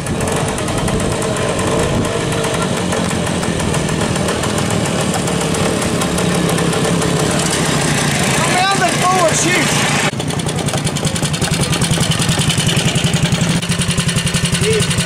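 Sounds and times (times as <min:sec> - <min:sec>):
motorcycle engine passing slowly: 0:00.0 - 0:15.0.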